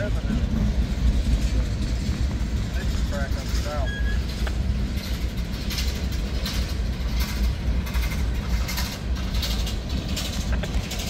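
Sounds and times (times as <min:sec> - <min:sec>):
freight train rumbling past: 0:00.0 - 0:11.0
train wheels clacking on rails: 0:00.0 - 0:11.0.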